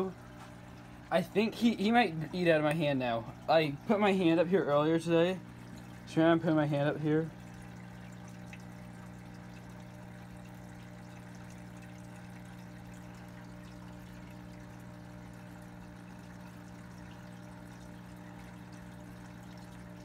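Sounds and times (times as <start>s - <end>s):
low filter hum: 0.0s - 20.0s
water trickling: 0.0s - 20.0s.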